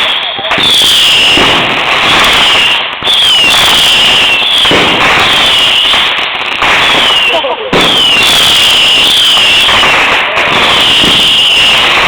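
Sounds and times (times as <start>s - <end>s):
fireworks hiss and crackle: 0.0s - 12.0s
falling whistles: 0.6s - 6.1s, 6.8s - 12.0s.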